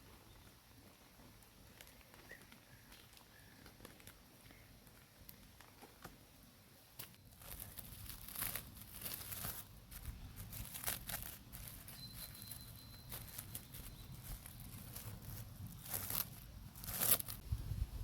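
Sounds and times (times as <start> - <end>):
crinkling and rustling: 0.4 - 6.3, 7.0 - 17.4.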